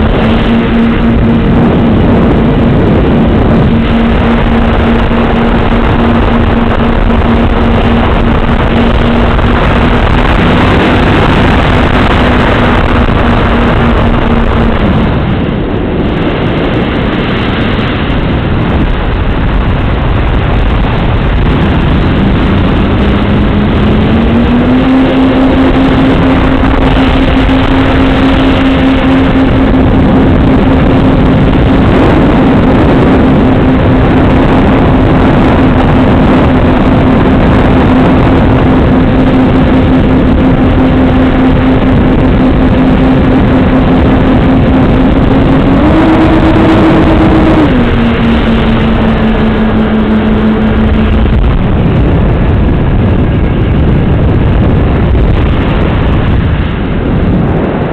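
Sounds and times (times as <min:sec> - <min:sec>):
wind rushing on microphone: 0:00.0 - 0:57.9.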